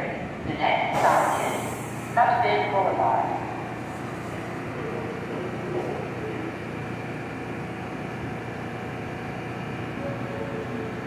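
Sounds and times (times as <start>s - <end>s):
subway train humming: 0.0s - 11.0s.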